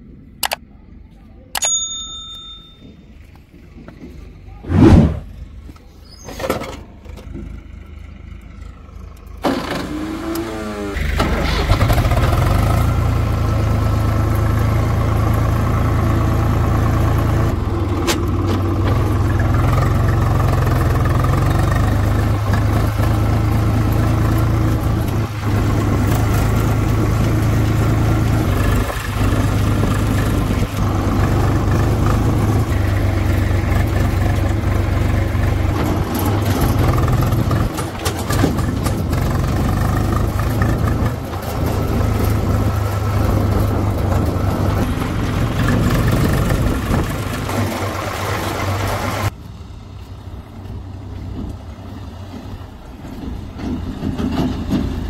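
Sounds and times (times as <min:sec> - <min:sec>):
diesel engine running: 0:02.3 - 0:55.0.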